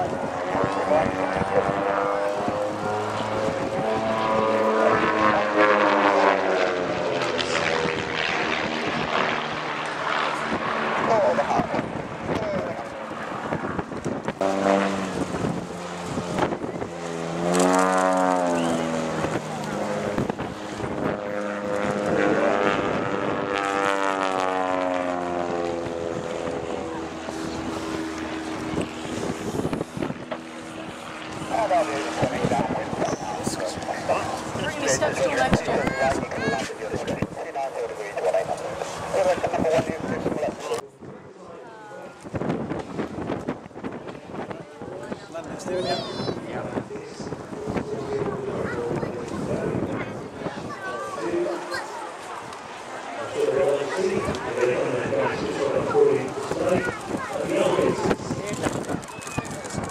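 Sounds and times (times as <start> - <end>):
light aircraft engine and propeller drone: 0.0 - 59.9.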